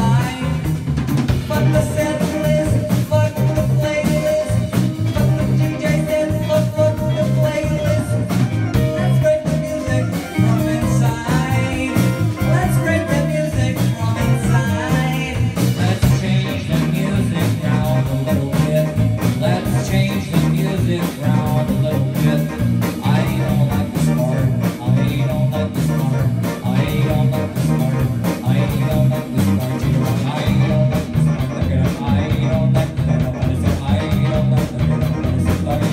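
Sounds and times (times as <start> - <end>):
bass: 0.0 - 35.9
drum kit: 0.0 - 35.9
electric guitars: 0.0 - 35.9
keyboard: 0.0 - 35.9
person singing: 0.0 - 35.9.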